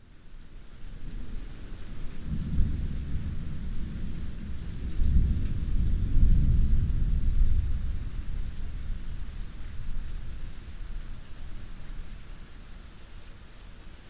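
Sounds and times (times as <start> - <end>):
rain falling: 0.0 - 14.0
rolling thunder: 0.9 - 12.6.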